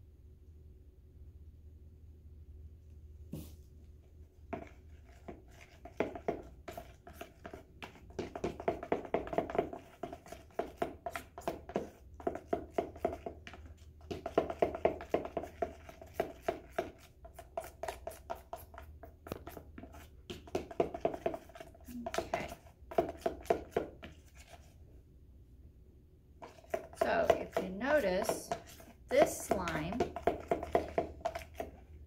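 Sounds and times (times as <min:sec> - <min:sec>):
spoon scraping plastic bowl: 0:04.6 - 0:24.8, 0:26.4 - 0:32.0.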